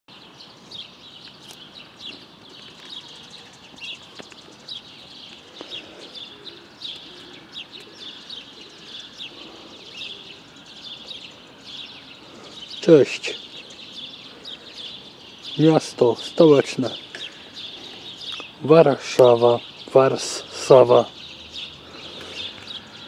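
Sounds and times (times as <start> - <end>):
faint background noise: 0.1 - 23.0
songbirds chirping: 0.1 - 23.0.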